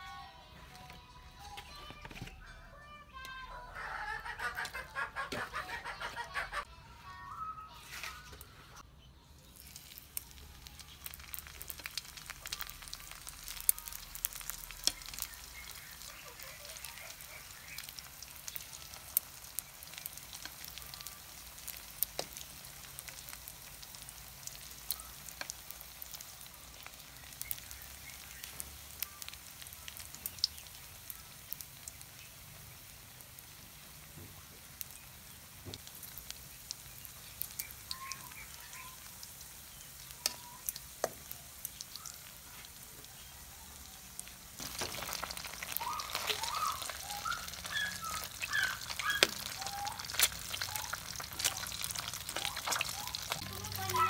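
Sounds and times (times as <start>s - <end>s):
food sizzling in oil: 9.4s - 54.0s
oil crackling and popping: 9.4s - 54.0s.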